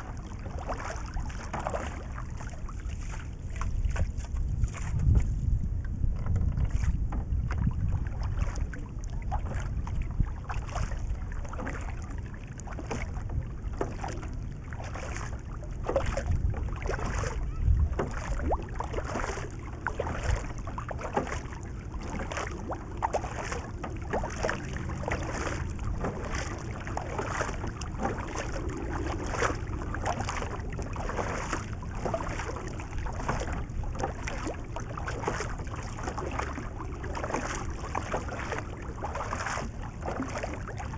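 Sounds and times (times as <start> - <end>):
kayak paddle strokes splashing: 0.0 - 40.9
wind buffeting microphone: 0.0 - 40.9.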